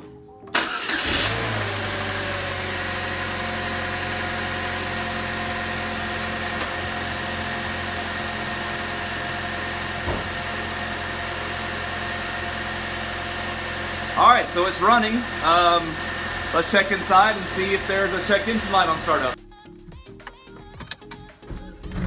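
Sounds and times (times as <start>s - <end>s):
car engine idling: 0.6s - 19.4s.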